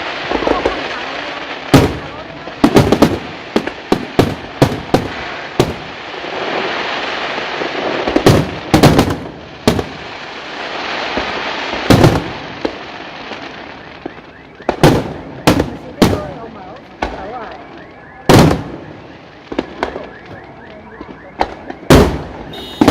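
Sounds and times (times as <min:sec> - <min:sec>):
fireworks bangs: 0:00.0 - 0:22.9
fireworks crackling: 0:00.0 - 0:22.9.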